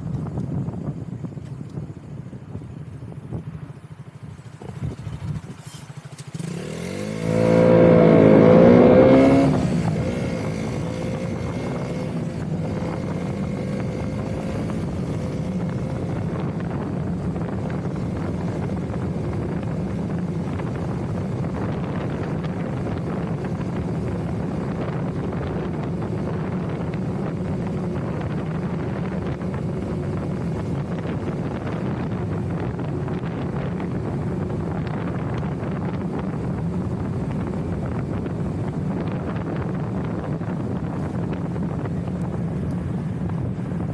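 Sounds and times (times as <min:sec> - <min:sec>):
motorcycle engine revving: 0:04.3 - 0:43.9.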